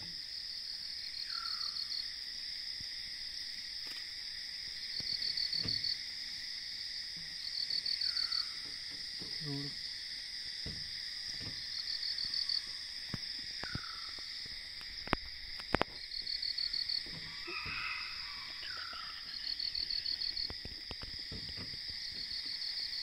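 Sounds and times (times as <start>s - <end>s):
high-pitched insect drone: 0.0s - 23.0s.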